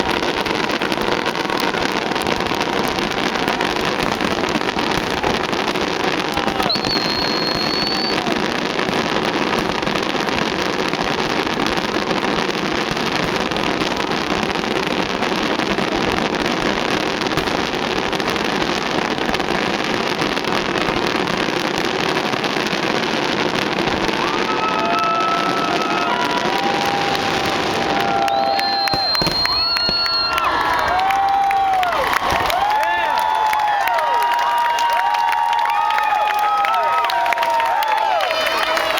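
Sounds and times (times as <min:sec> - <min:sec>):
fireworks bursting rumble: 0:00.0 - 0:38.9.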